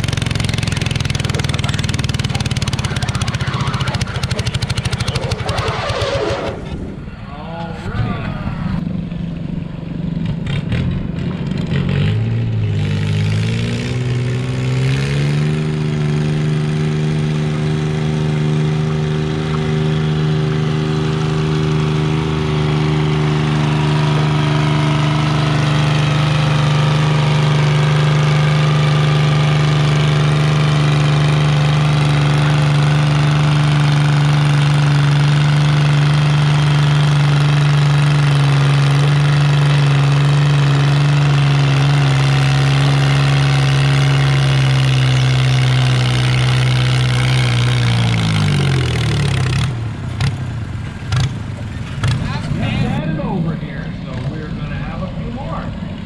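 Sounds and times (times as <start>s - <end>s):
garden tractor engine revving: 0.0s - 6.7s, 10.5s - 56.0s.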